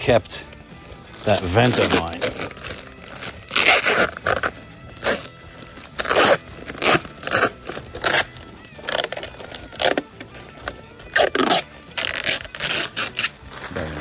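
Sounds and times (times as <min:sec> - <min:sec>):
faint background music: 0:00.0 - 0:14.0
plastic film crinkling: 0:00.5 - 0:14.0.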